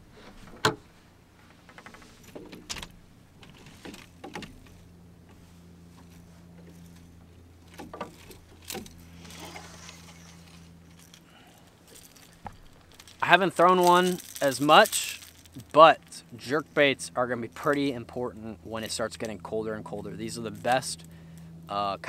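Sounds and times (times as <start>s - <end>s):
low steady hum: 0.0s - 22.0s
lures and tackle boxes rattling: 1.4s - 4.9s, 5.8s - 21.1s.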